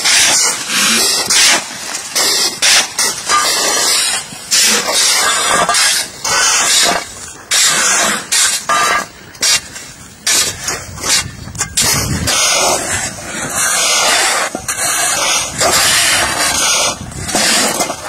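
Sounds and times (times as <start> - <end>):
shovels scraping ice on pavement: 0.0 - 18.0.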